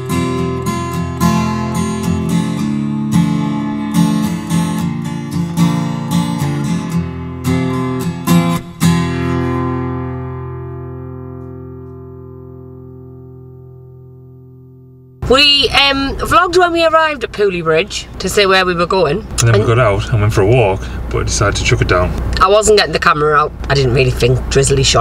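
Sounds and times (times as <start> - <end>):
acoustic guitar picking and strumming: 0.0 - 25.0.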